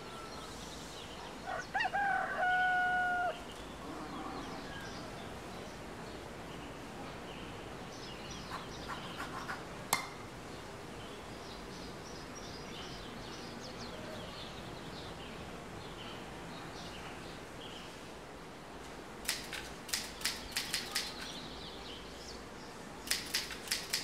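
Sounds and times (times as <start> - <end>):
outdoor ambience: 0.0 - 24.0
small birds chirping: 3.3 - 18.2, 18.8 - 24.0.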